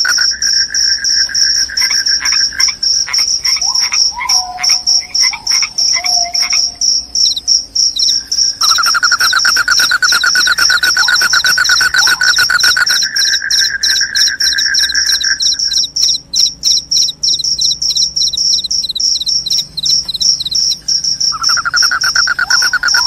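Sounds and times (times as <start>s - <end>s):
crickets chirping: 0.0s - 23.0s
lower pulsed trill: 0.0s - 23.0s.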